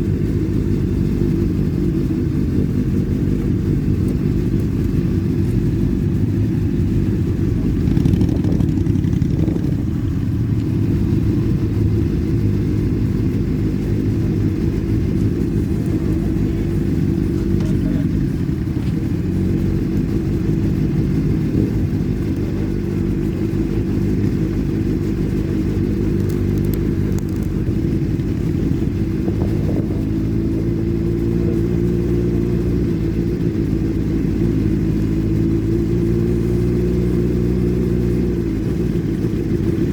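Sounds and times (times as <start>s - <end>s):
motorcycle engines rumbling: 0.0s - 39.9s.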